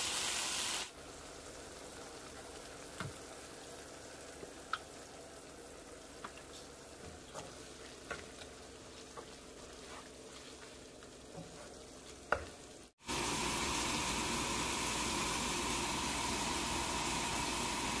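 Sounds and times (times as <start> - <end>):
vegetables sizzling in a wok: 0.0 - 18.0.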